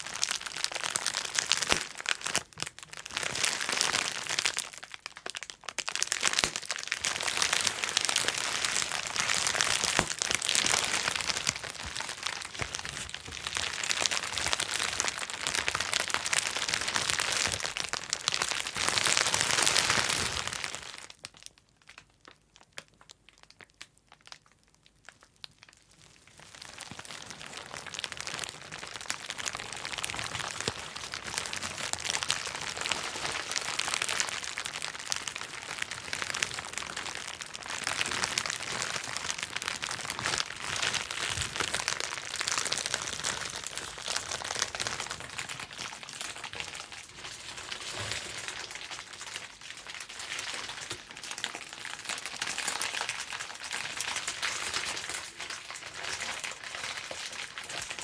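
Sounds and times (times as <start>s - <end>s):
bubble wrap popping and crinkling: 0.0s - 58.0s.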